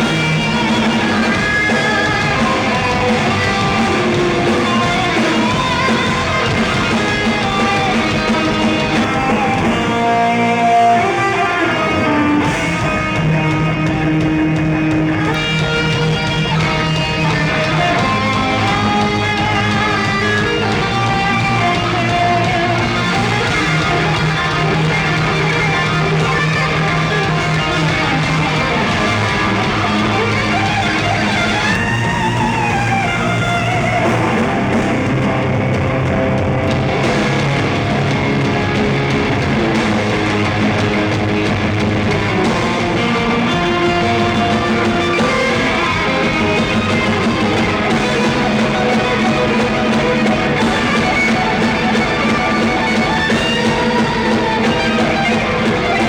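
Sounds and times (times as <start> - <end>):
electric guitar melody: 0.0 - 56.0
rock band playing live: 0.0 - 56.0.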